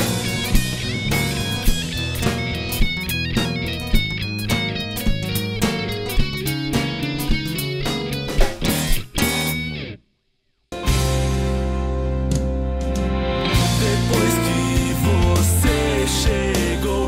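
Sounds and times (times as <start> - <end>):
live band playing instrumental: 0.0 - 9.6, 10.8 - 17.0.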